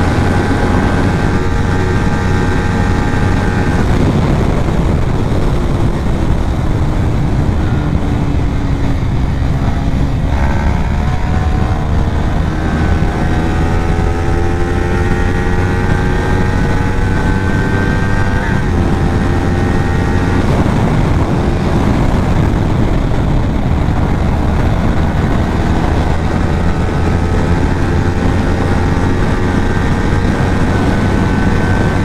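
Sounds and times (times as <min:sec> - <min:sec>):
heavy wind rush: 0:00.0 - 0:32.0
motorcycle engine accelerating: 0:00.0 - 0:32.0.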